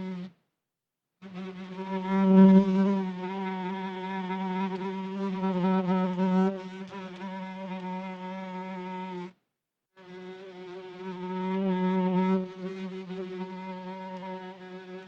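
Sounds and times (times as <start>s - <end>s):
housefly buzzing in flight: 1.3s - 9.3s, 10.1s - 15.0s.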